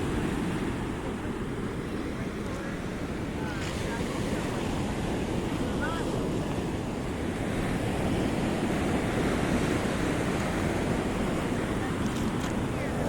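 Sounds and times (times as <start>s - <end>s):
ocean waves washing on rocks: 0.0s - 13.0s
wind buffeting microphone: 0.0s - 13.0s.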